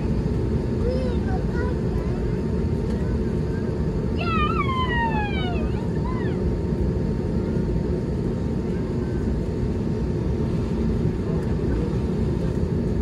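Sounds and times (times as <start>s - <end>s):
jet engines idling rumble: 0.0s - 13.0s.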